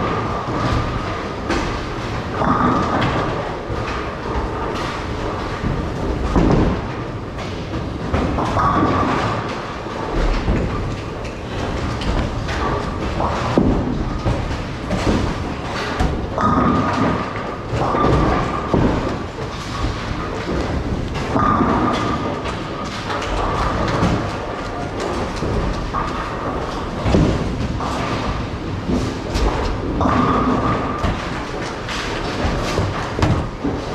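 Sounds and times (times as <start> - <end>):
bowling balls rolling: 0.0 - 33.9
bowling pins clattering: 0.0 - 33.9.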